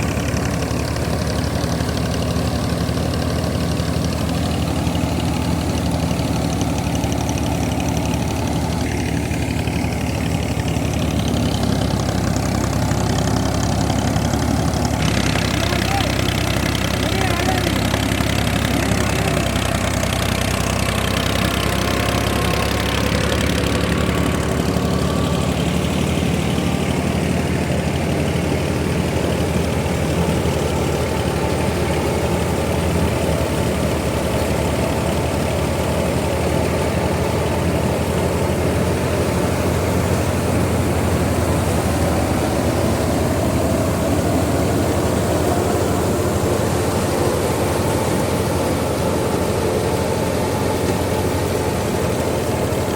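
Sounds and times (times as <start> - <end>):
thresher machinery running: 0.0 - 52.9
tractor engine running under load: 0.0 - 52.9.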